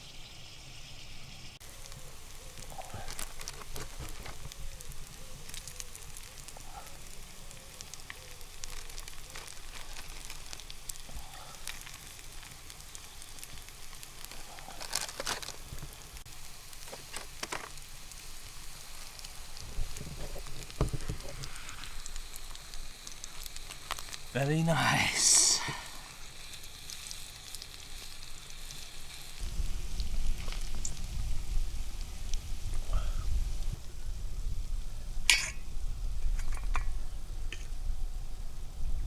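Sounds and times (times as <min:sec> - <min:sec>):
campfire crackling: 0:00.2 - 0:39.0.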